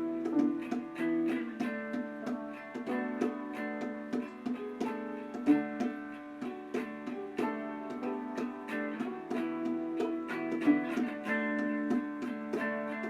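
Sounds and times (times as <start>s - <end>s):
plucked string instrument tune: 0.0s - 13.0s.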